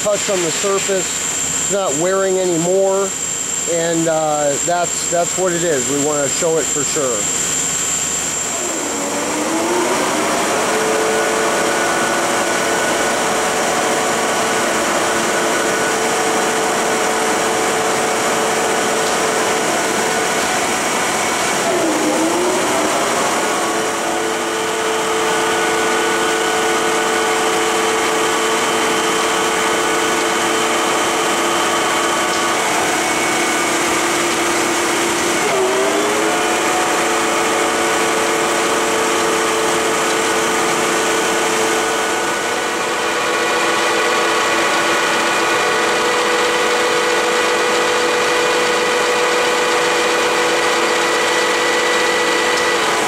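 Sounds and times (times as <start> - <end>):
boring mill motor whine: 0.0 - 53.0.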